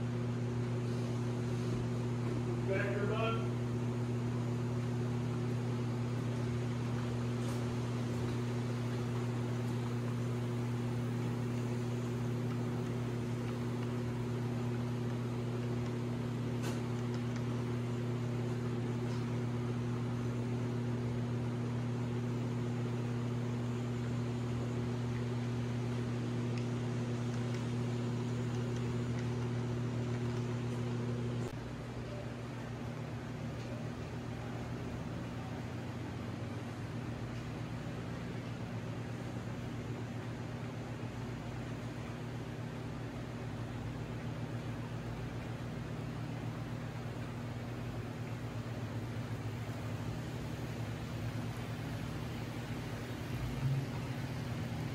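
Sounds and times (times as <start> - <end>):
low electrical hum: 0.0 - 54.9.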